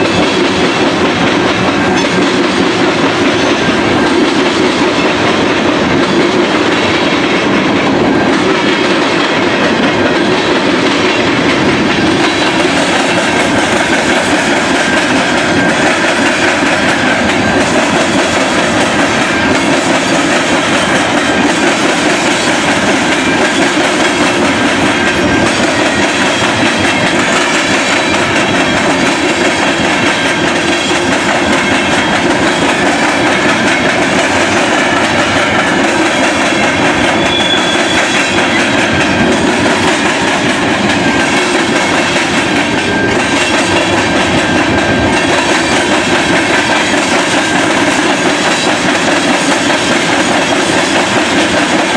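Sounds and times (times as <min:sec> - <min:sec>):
freight train wheels clattering: 0:00.0 - 0:51.9.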